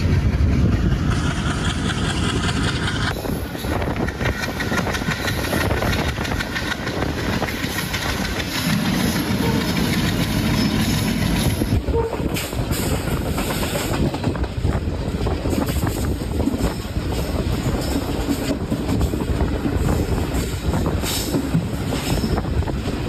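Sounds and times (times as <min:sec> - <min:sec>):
train rumble: 0:00.0 - 0:23.0
train wheels clacking: 0:00.0 - 0:23.0.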